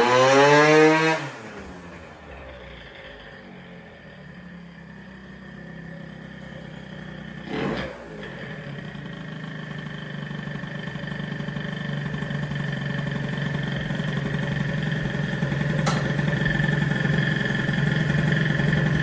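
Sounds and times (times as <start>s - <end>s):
scooter two-stroke engine: 0.0s - 19.0s.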